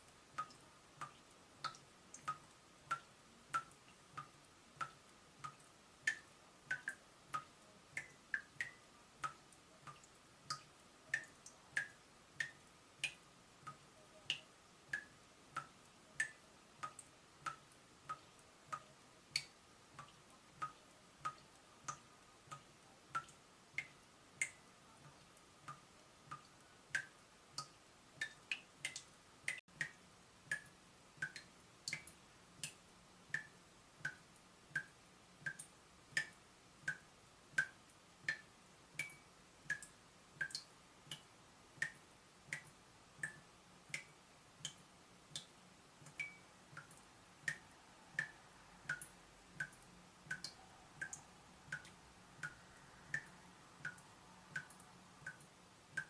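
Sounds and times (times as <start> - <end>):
water dripping from tap: 0.0 - 56.0.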